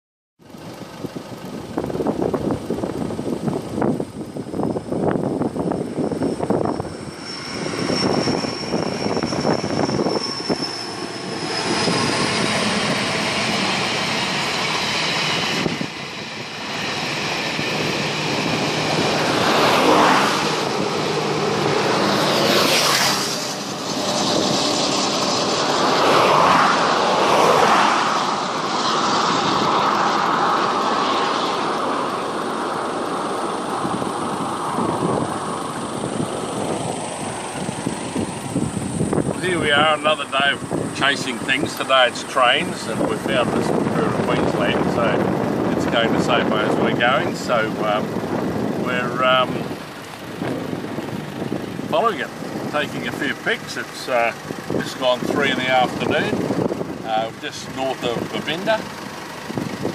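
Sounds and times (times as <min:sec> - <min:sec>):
vehicles passing close by: 0:00.4 - 0:59.9.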